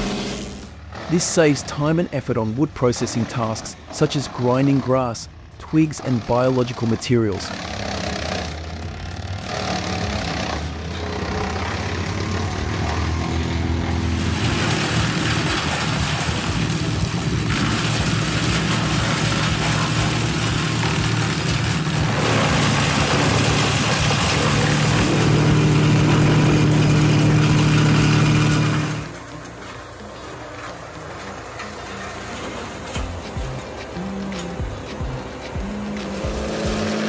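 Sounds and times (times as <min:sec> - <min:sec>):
wood chipper shredding branches: 0:00.0 - 0:04.9, 0:05.5 - 0:34.5, 0:36.0 - 0:37.0
wood chipper engine drone: 0:00.0 - 0:37.0.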